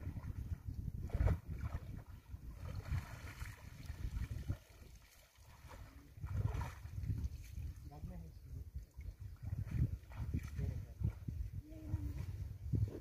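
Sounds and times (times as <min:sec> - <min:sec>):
water splashing and sloshing: 0:00.0 - 0:13.0
wind rumbling on microphone: 0:00.0 - 0:13.0.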